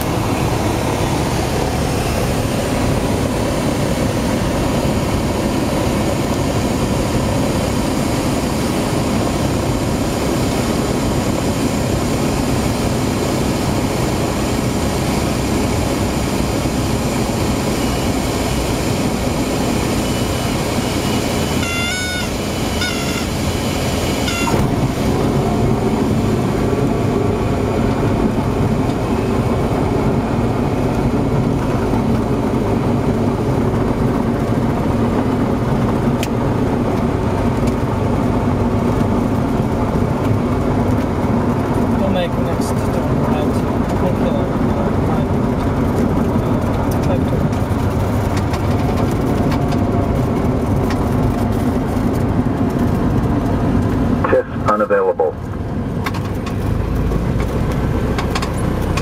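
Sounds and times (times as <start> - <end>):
propeller plane engine in cabin: 0.0 - 59.0.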